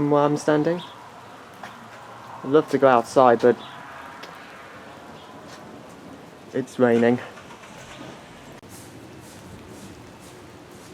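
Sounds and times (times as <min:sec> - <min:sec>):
steady rain hiss: 0:00.0 - 0:10.9.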